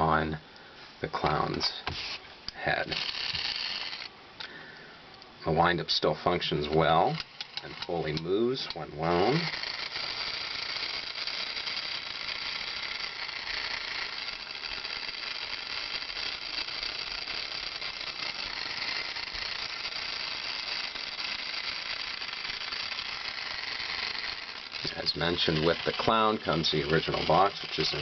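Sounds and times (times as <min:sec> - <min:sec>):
whirr of small gears: 0:01.2 - 0:04.6, 0:06.2 - 0:28.0
tin toy rattling: 0:02.0 - 0:04.1, 0:06.6 - 0:28.0.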